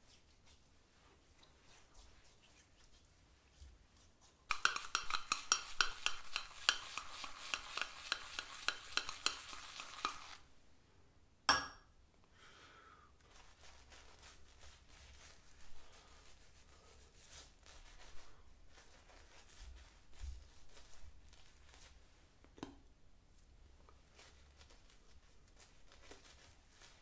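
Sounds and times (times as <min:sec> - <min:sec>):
brush whipping lather in metal bowl: 0:00.0 - 0:10.5, 0:13.2 - 0:22.0, 0:24.1 - 0:27.0
brushing lather on face: 0:00.0 - 0:10.5, 0:13.2 - 0:22.2, 0:23.4 - 0:27.0.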